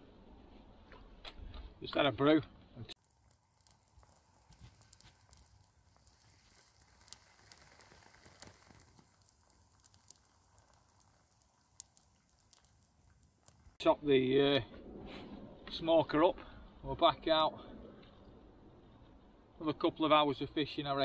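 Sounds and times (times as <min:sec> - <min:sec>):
campfire embers crackling: 0:00.5 - 0:21.0
fire popping: 0:02.6 - 0:19.5.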